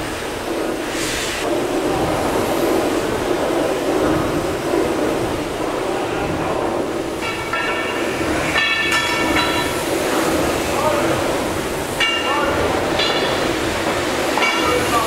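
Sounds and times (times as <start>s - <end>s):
steam engines rumbling: 0.0s - 15.0s.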